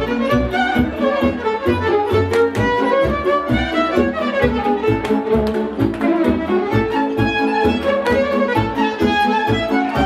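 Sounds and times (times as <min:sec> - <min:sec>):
steady bass beat: 0:00.0 - 0:10.0
violin playing lead melody: 0:00.0 - 0:10.0.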